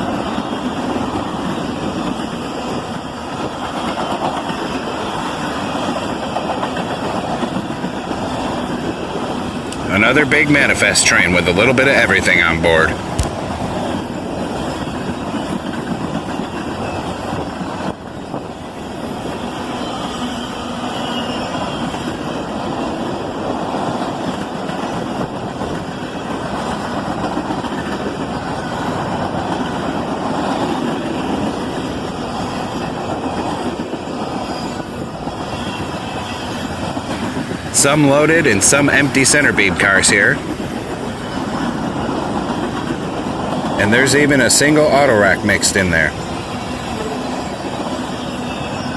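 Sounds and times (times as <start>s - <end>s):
freight train cars rumbling past: 0.0s - 48.9s.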